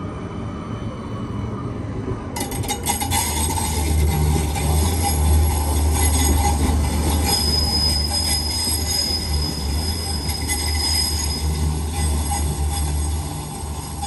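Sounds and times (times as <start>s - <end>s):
train rumbling on rails: 0.0s - 14.0s
high wheel squeal: 2.4s - 14.0s.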